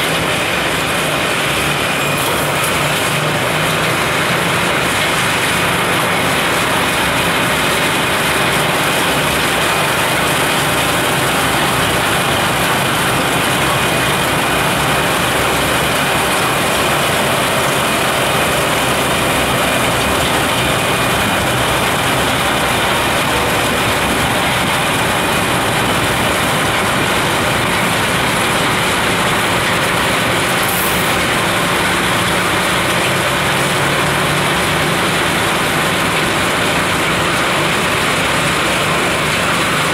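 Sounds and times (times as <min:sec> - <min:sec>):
snow blower engine and rotor: 0:00.0 - 0:39.9.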